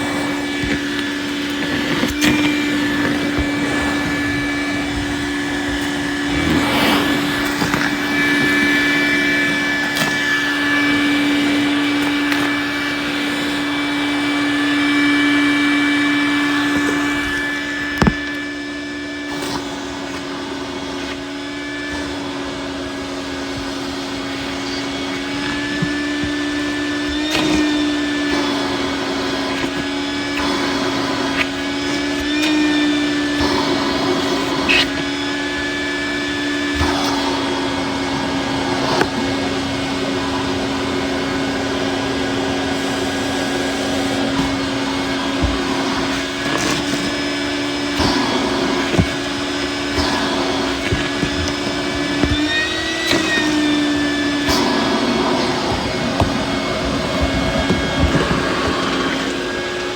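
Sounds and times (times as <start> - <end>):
vacuum cleaner humming: 0.0 - 59.9.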